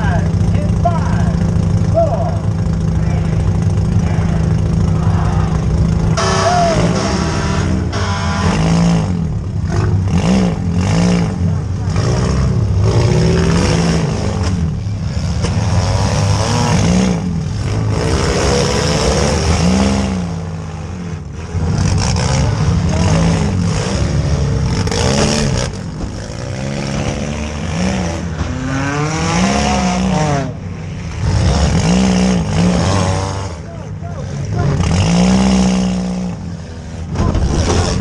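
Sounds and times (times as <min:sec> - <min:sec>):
car engine revving: 0:00.0 - 0:38.0
other car engines running: 0:00.0 - 0:38.0.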